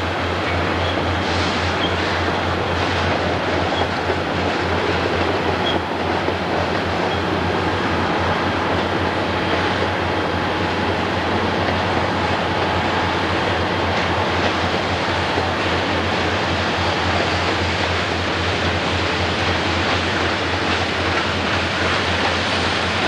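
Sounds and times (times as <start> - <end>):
steel wheels rumbling on rail: 0.0 - 23.0.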